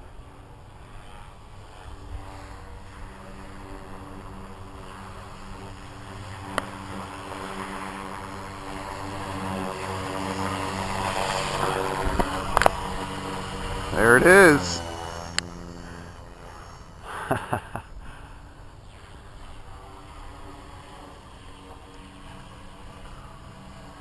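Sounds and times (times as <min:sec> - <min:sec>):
rc helicopter buzzing hum: 0:00.0 - 0:24.0.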